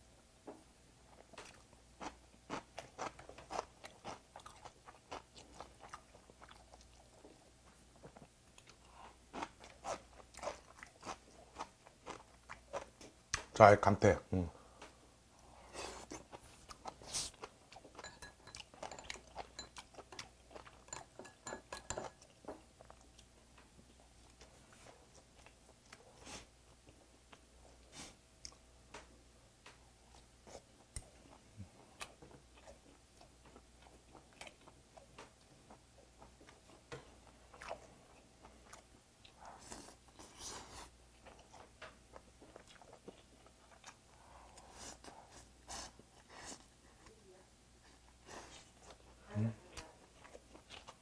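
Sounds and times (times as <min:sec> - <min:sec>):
man chewing seaweed: 0:01.0 - 0:13.4, 0:15.4 - 0:28.8, 0:30.0 - 0:47.1, 0:47.7 - 0:51.0.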